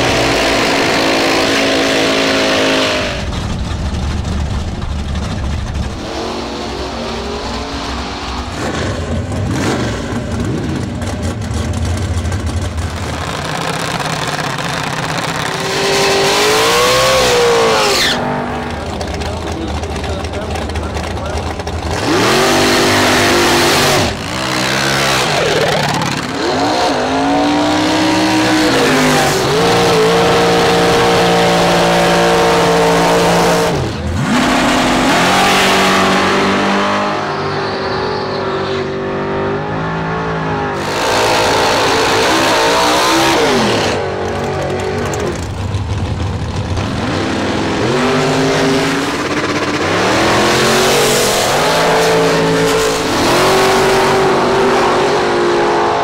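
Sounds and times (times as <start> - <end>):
drag racing engines revving: 0.0 - 56.0.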